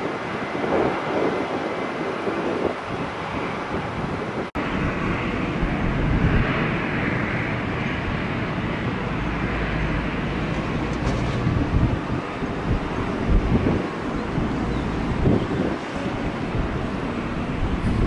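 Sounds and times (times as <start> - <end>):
jet engines running: 0.0 - 18.0
wind rumble on microphone: 0.0 - 18.0.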